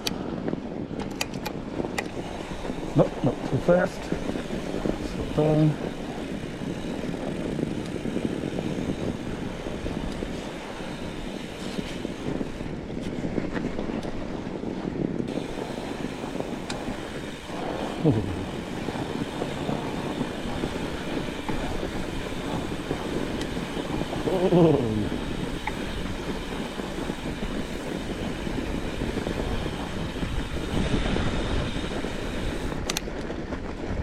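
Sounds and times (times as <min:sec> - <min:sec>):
wind buffeting microphone: 0:00.0 - 0:34.0
tyres rolling on snow: 0:01.6 - 0:34.0.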